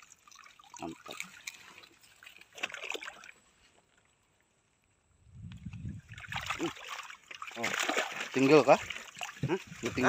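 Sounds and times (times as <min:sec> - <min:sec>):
water sloshing and dribbling: 0:00.0 - 0:04.6, 0:05.5 - 0:10.0.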